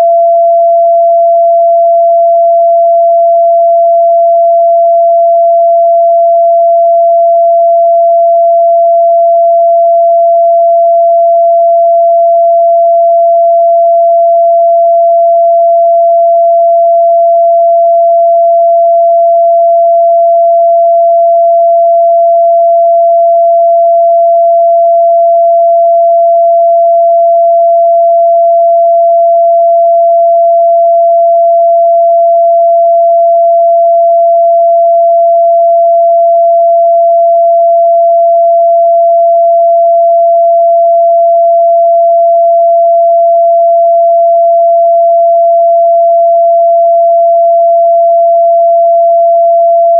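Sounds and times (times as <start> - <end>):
sine-wave test tone: 0.0 - 49.9.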